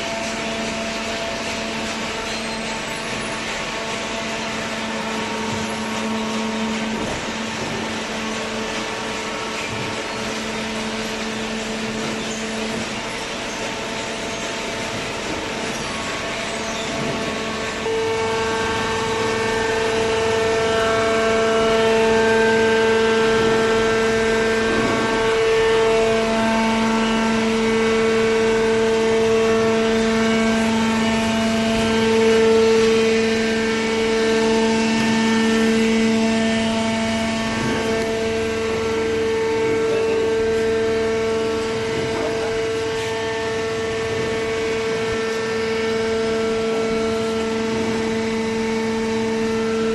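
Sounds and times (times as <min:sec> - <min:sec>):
hydraulic baler hum and whine: 0:00.0 - 0:49.9.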